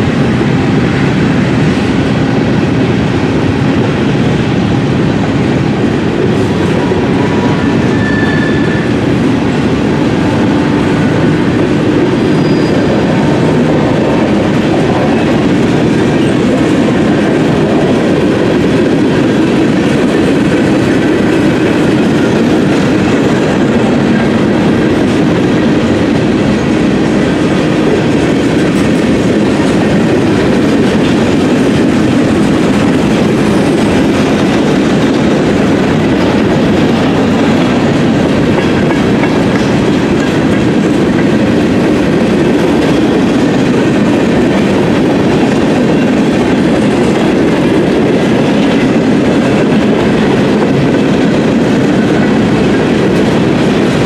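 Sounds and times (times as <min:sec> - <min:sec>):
freight train cars rolling past: 0:00.0 - 0:54.0.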